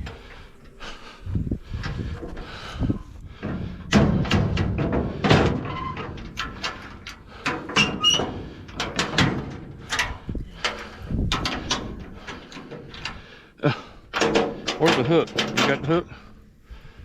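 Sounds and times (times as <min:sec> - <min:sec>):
scrap metal knocks and clanks: 0:00.0 - 0:16.4.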